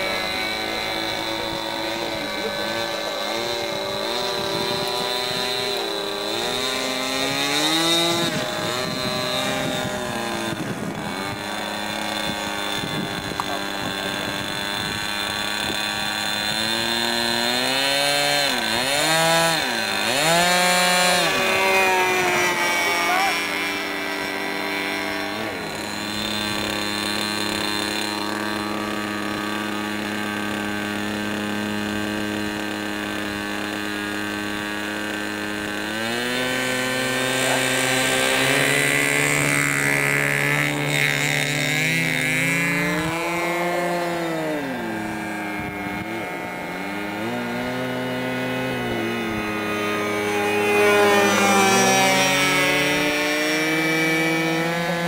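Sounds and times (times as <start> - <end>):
model aircraft engine in flight: 0.0 - 55.0.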